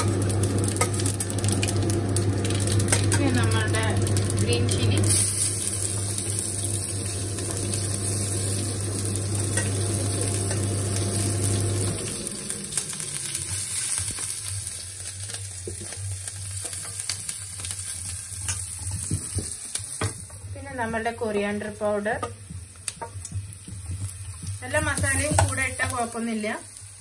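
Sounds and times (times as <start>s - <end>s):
seeds sizzling in hot oil: 0.0s - 27.0s.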